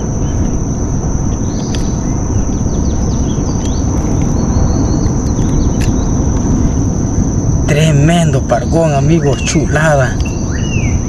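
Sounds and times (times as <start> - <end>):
downward-sweeping bird chirps: 0.0 - 6.3, 8.0 - 11.0
high insect buzz: 0.0 - 11.0
low rumble: 0.0 - 11.0.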